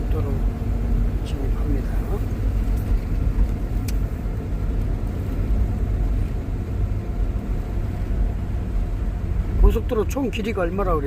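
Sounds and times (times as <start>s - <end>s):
vehicle engine and tyre rumble: 0.0s - 11.0s.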